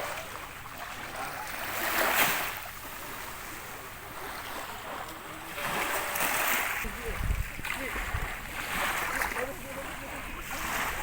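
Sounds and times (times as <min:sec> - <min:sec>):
sea water washing and surging: 0:00.0 - 0:11.0
wind: 0:00.0 - 0:11.0.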